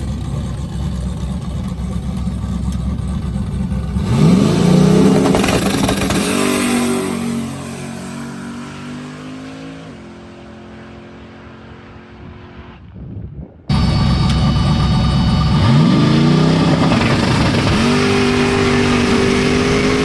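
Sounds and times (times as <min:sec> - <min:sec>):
drag car engine revving: 0:00.0 - 0:09.8, 0:13.7 - 0:20.0.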